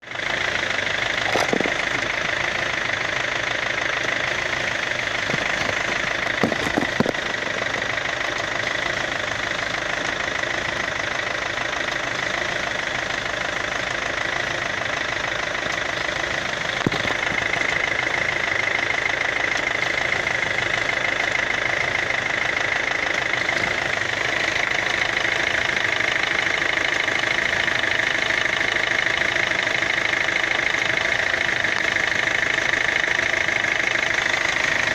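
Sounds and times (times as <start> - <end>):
car running mechanical noise: 0.0 - 34.9.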